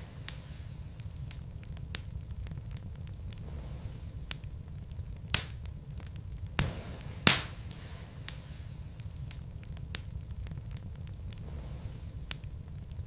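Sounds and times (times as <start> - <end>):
burning logs crackling: 0.0 - 13.0.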